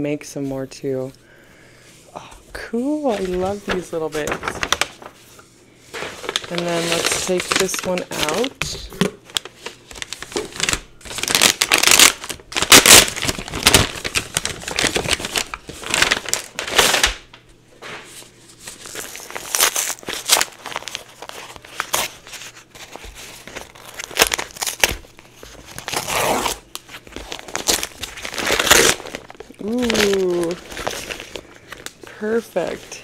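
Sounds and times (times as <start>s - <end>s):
gift wrap crinkling and tearing: 3.0s - 5.4s, 6.0s - 17.3s, 18.6s - 33.0s.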